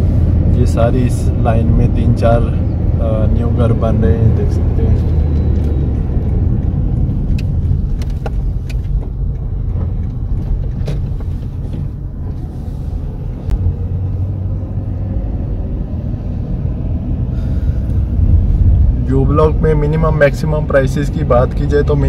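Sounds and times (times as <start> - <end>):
car driving on paved road: 0.0 - 22.0.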